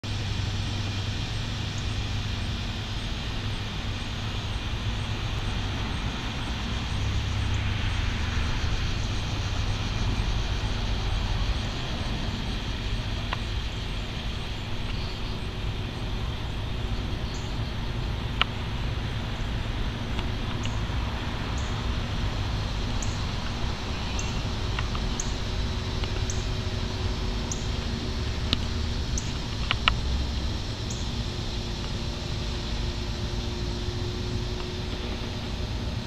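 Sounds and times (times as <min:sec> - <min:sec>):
background rumble and hiss: 0:00.0 - 0:36.0.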